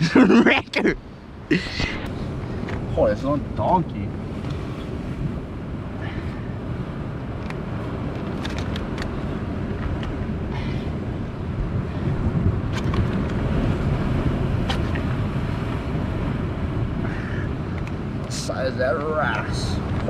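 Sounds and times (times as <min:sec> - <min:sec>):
surf on rocky shore: 0:00.0 - 0:20.0
wind buffeting microphone: 0:00.8 - 0:20.0.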